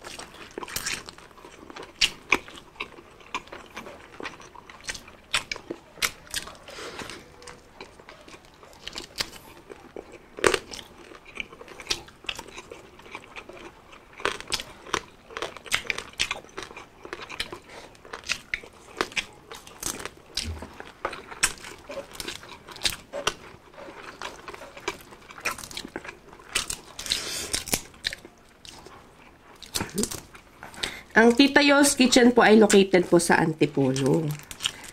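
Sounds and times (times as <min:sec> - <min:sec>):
crunching crispy pork: 0:00.0 - 0:31.4, 0:33.7 - 0:34.9
wet chewing: 0:00.0 - 0:34.9.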